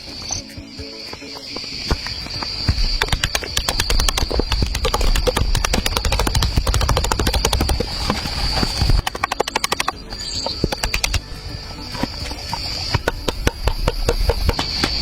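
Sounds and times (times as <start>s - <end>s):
high insect buzz: 0.0s - 15.0s
sharp clicks and knocks: 1.8s - 11.2s, 12.0s - 15.0s.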